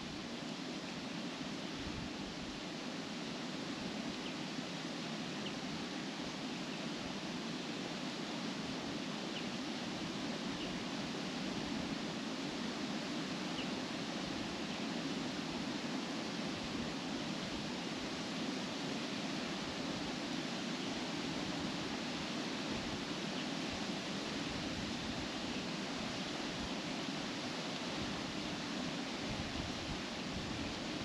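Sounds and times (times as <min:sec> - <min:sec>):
wind rustling leaves: 0:00.0 - 0:31.0.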